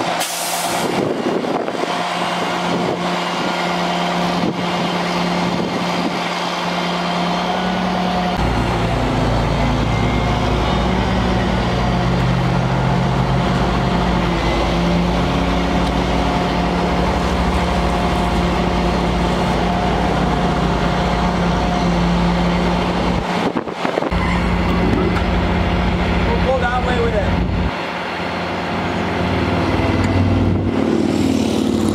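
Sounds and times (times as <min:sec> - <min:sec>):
diesel engine running steadily: 0:00.0 - 0:31.9.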